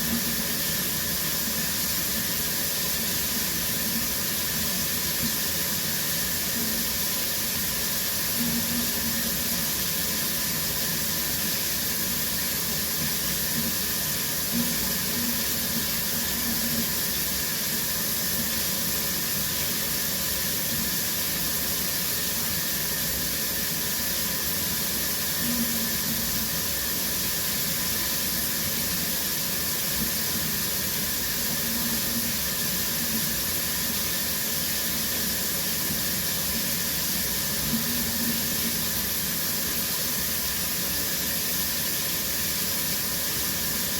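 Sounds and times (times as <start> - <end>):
shower water spraying: 0.0 - 43.9.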